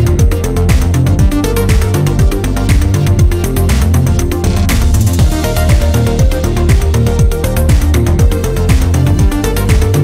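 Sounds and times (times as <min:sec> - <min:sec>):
electronic dance music: 0:00.0 - 0:10.0
kick drum beat: 0:00.0 - 0:10.0.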